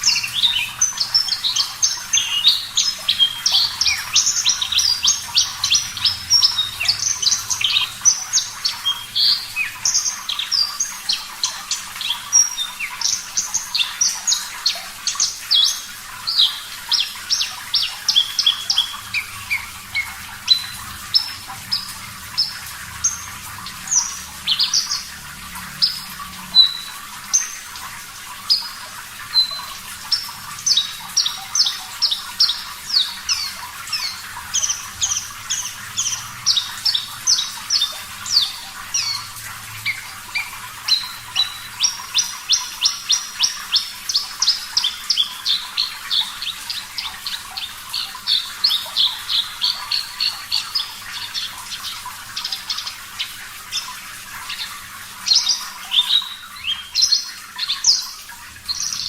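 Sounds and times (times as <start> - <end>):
lark singing chirps and trills: 0.0 - 27.8, 28.4 - 59.0
running water: 0.0 - 59.0.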